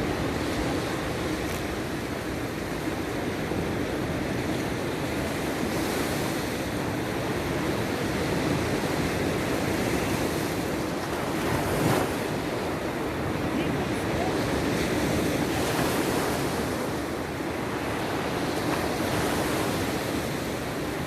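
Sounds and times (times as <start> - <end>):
sea waves washing onto shore: 0.0 - 21.0.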